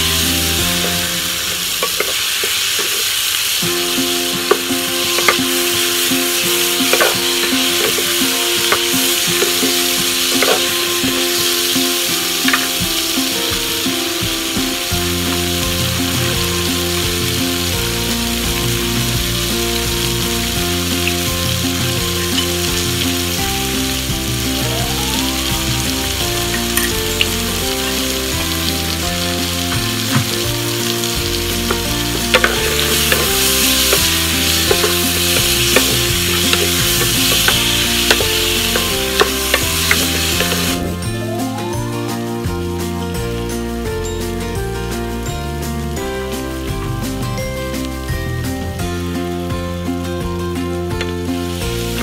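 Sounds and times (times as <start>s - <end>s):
vegetables sizzling in a pan: 0.0s - 41.0s, 51.3s - 52.0s.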